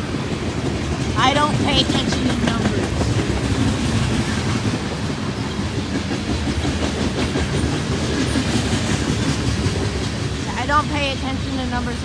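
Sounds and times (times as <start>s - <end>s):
freight train rumbling past: 0.0s - 12.0s
wheels clattering on rails: 0.0s - 12.0s.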